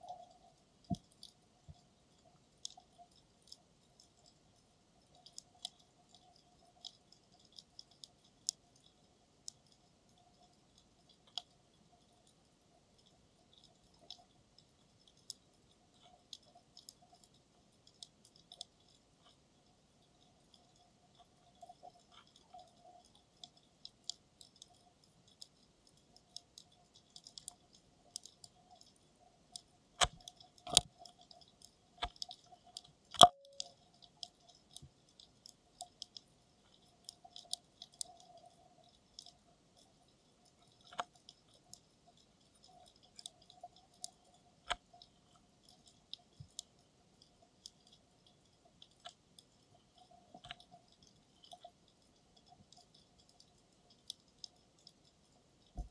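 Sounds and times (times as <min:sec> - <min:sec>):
faint steady hum: 0:00.0 - 0:55.9
underwater clicks and crackles: 0:00.0 - 0:55.9.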